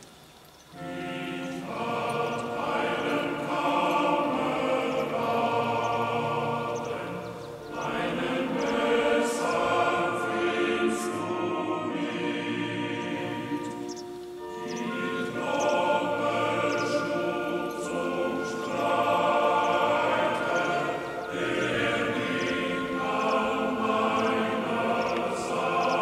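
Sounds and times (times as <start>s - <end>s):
choir singing sustained chords: 0.0s - 26.0s.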